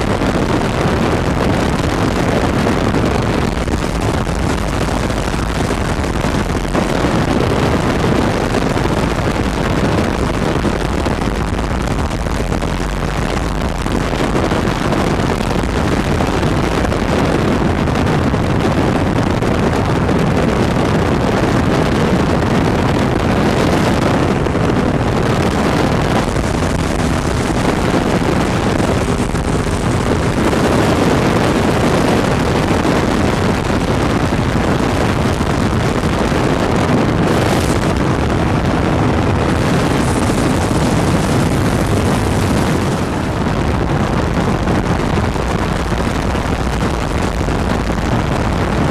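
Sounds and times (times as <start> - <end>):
aircraft engine and propeller drone: 0.0 - 45.5
wind noise on microphone: 0.0 - 48.9.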